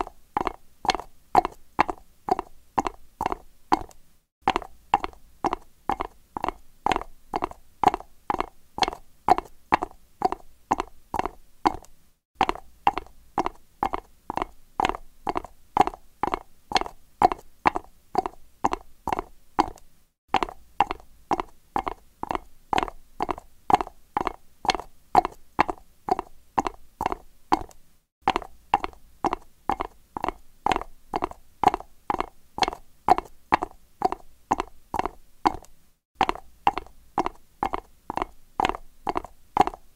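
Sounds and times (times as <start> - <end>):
horse hooves clopping on concrete: 0.0 - 39.9.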